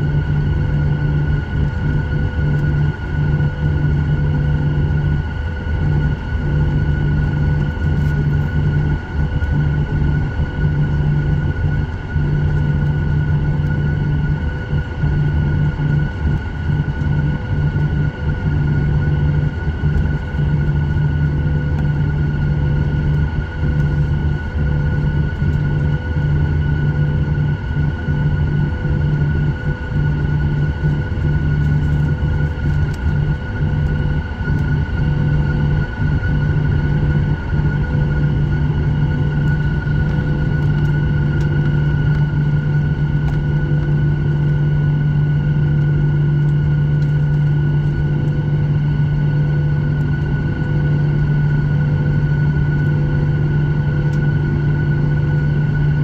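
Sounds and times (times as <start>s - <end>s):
jet engine low rumble: 0.0s - 56.0s
jet engine whine: 0.0s - 56.0s.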